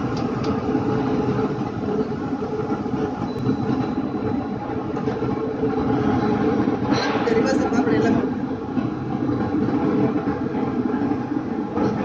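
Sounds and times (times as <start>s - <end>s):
factory machinery drone: 0.0s - 12.0s.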